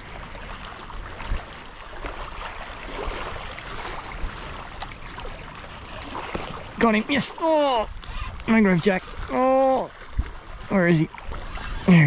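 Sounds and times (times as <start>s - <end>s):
water lapping around rocks: 0.0s - 12.0s.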